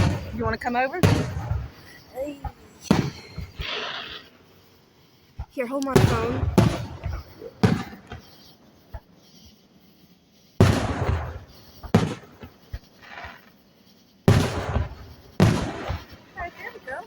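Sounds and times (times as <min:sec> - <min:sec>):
firework booms: 0:00.0 - 0:09.6, 0:10.5 - 0:17.0.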